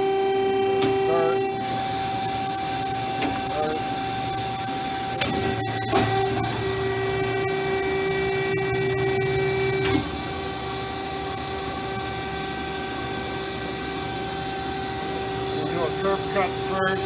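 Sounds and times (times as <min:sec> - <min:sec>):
band saw whine: 0:00.0 - 0:17.0
steady machine drone: 0:00.0 - 0:17.0.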